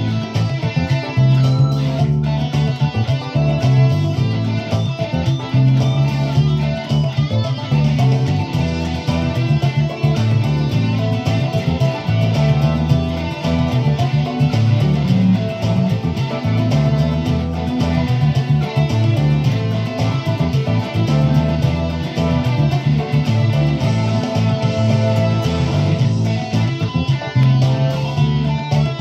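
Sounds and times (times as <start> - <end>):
electric guitar boogie: 0.0 - 29.0
steady beat: 0.0 - 29.0.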